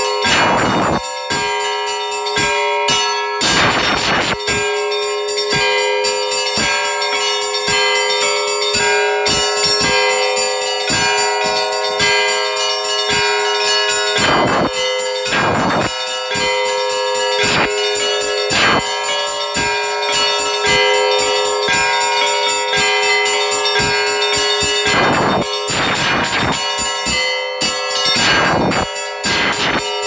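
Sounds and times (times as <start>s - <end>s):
large bells ringing: 0.0s - 30.0s
small church bells striking quickly: 0.0s - 30.0s.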